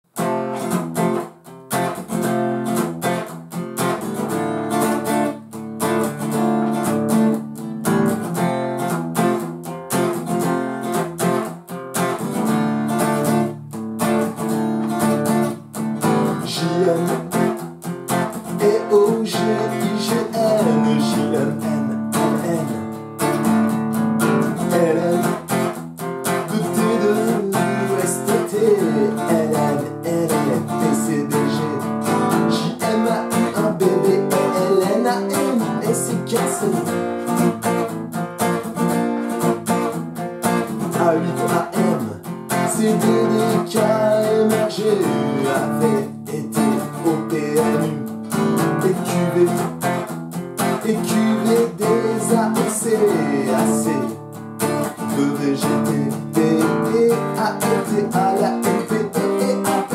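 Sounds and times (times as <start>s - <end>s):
acoustic guitar strumming chords: 0.1s - 59.9s.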